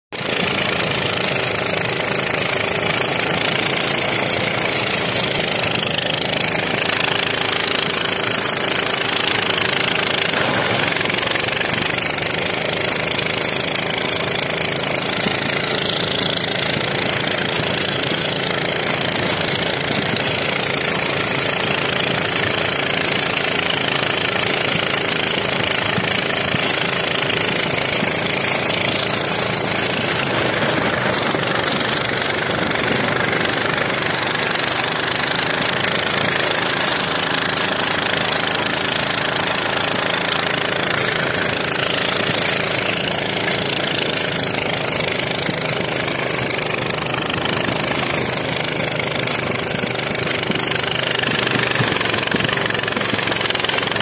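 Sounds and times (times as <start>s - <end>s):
small petrol engine under load: 0.1s - 54.0s.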